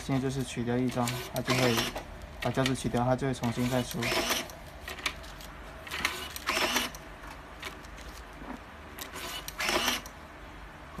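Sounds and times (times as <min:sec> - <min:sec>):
tape dispenser whirring: 0:00.1 - 0:10.2.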